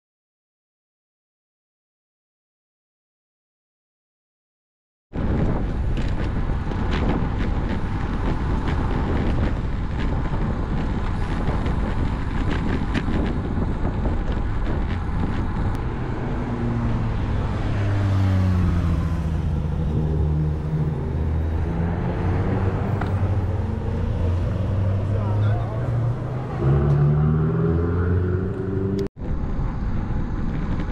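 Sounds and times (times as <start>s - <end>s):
tyre and road rumble: 5.1s - 30.9s
wind rushing over microphone: 5.1s - 30.9s
motor vehicle engine: 5.2s - 30.9s.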